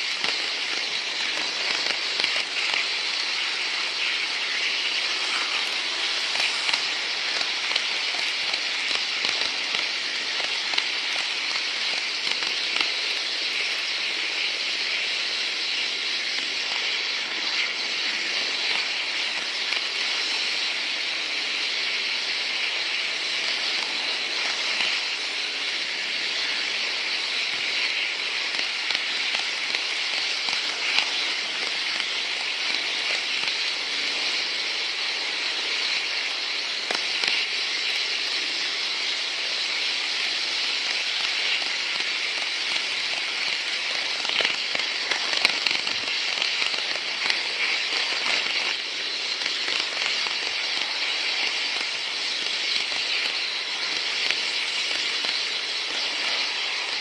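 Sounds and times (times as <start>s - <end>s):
model train rolling on track: 0.0s - 57.0s.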